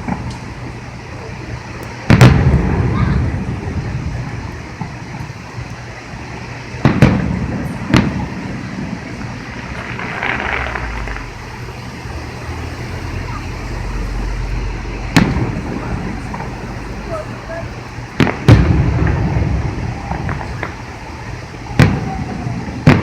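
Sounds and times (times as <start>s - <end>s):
fireworks bangs: 0.0s - 23.0s
low background rumble: 0.0s - 23.0s.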